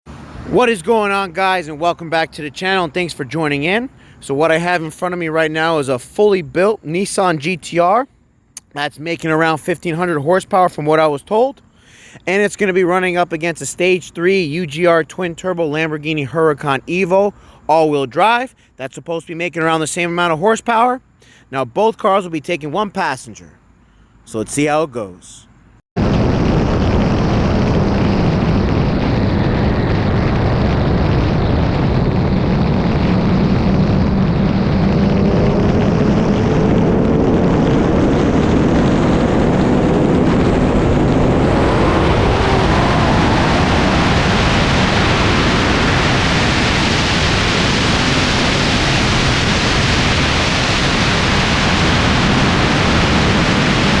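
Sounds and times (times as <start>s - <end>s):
wind and road noise: 0.1s - 54.0s.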